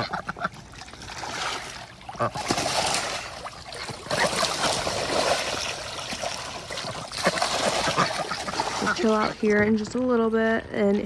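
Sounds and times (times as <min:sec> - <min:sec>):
ducks splashing in water: 0:00.0 - 0:10.0
water trickling: 0:00.0 - 0:10.2.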